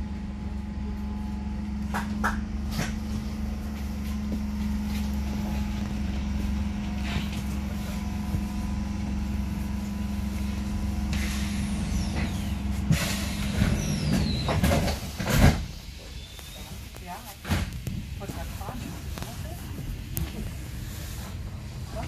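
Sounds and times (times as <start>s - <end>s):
electrical hum of rail car: 0.0s - 22.0s.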